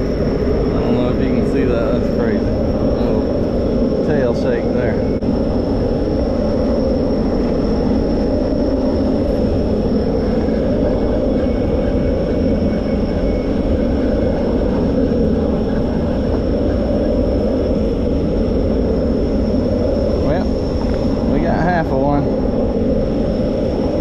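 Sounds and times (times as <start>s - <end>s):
boat engine rumble: 0.0s - 24.0s
faint high whine: 0.0s - 24.0s.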